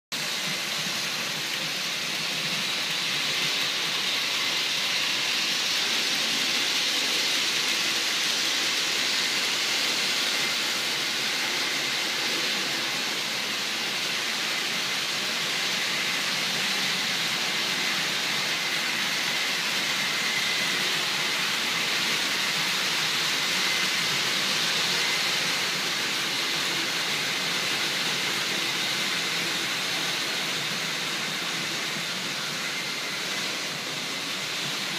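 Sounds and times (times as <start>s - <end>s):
model train wheels rolling on rails: 0.2s - 34.9s.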